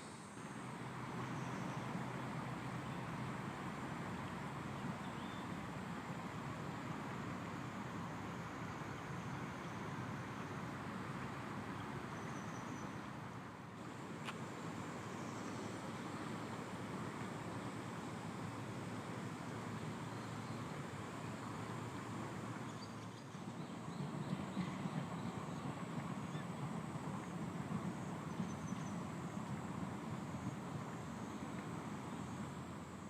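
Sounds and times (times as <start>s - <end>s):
low rushing background noise: 0.0s - 33.0s.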